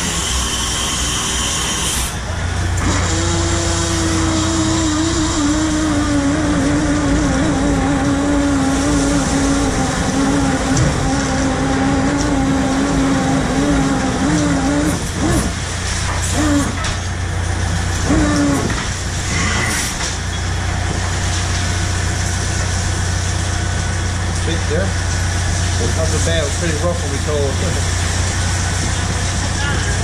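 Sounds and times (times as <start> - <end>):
boat engine droning: 0.0 - 30.0
hydraulic winch whining: 0.0 - 30.0.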